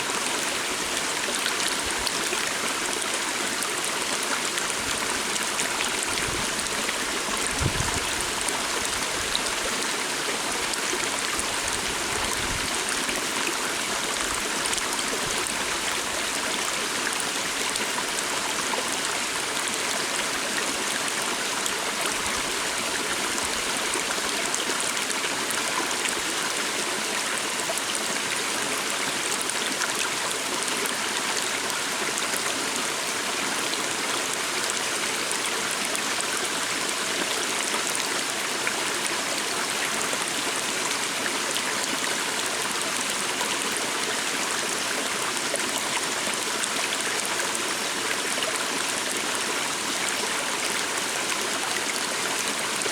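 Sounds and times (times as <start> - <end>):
small stream flowing: 0.0 - 52.9.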